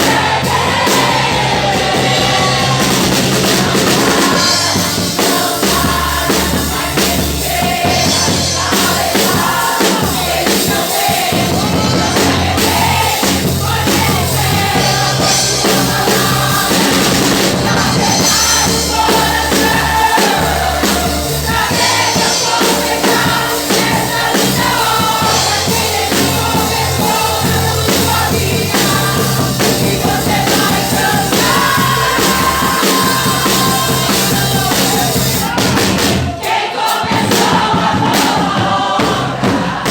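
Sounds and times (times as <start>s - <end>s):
steady bass line: 0.0s - 36.4s
loud music with singing: 0.0s - 39.9s.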